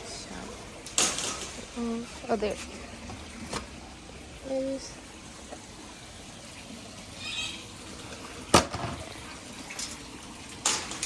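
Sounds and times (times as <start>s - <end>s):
water running from a tap: 0.0s - 11.0s.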